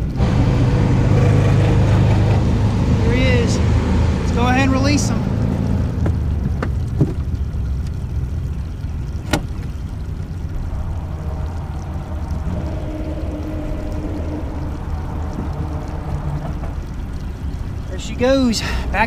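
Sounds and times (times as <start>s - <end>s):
faint steady hum: 0.0s - 19.0s
steady low rumble: 0.0s - 19.0s
water sloshing against boat: 0.0s - 19.0s.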